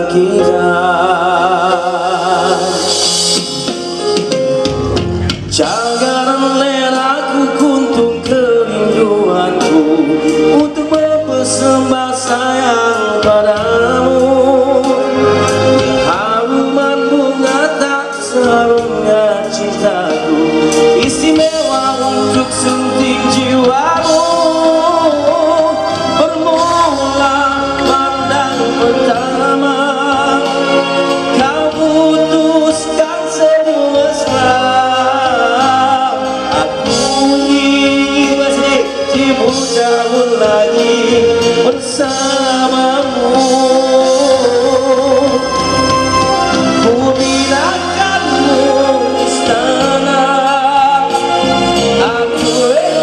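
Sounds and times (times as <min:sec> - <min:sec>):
man singing into microphone: 0:00.0 - 0:04.5, 0:05.2 - 0:53.0
small band playing: 0:00.0 - 0:53.0.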